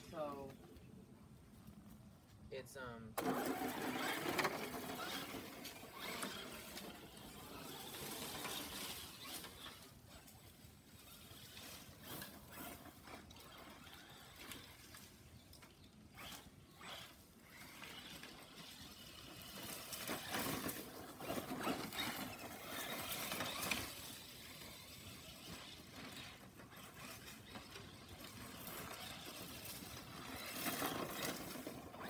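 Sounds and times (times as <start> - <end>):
rc car driving across grass: 3.1 - 32.0.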